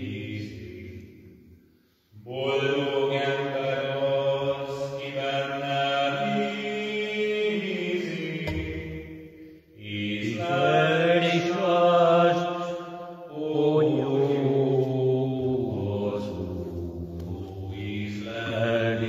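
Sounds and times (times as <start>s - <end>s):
man singing a slow psalm: 0.0s - 1.3s, 2.1s - 19.0s.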